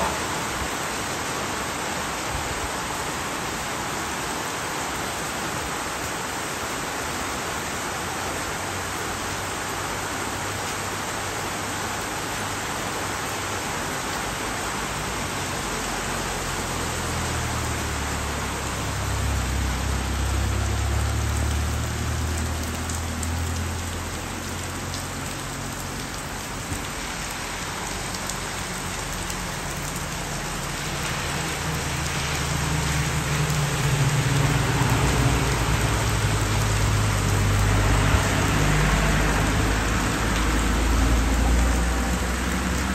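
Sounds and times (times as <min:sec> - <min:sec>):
rain on leaves and metal roof: 0:00.0 - 0:42.9.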